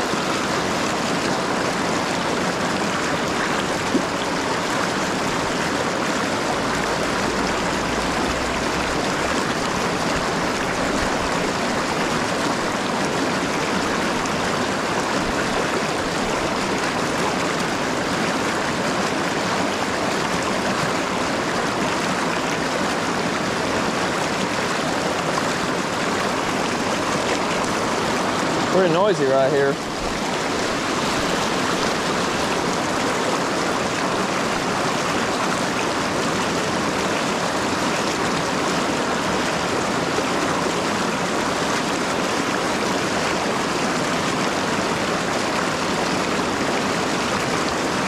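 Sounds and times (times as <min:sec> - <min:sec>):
river rapids rushing: 0:00.0 - 0:48.0.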